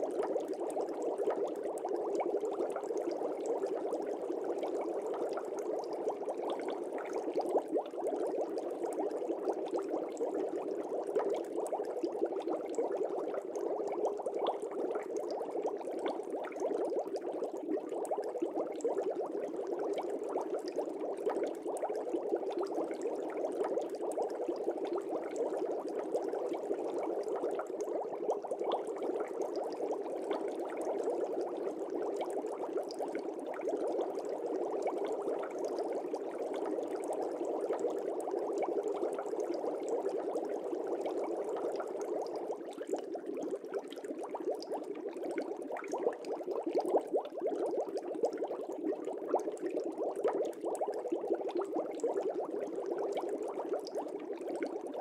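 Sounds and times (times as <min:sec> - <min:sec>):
aquarium air bubbling: 0:00.0 - 0:55.0.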